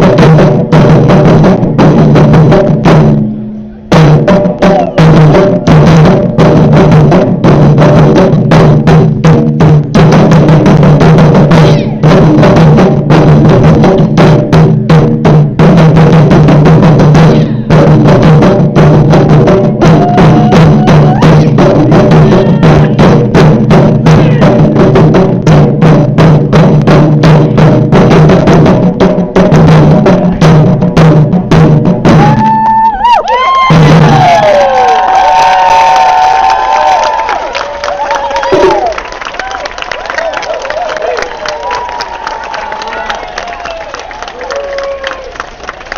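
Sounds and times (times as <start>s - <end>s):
taiko drums playing fast: 0.0s - 45.2s.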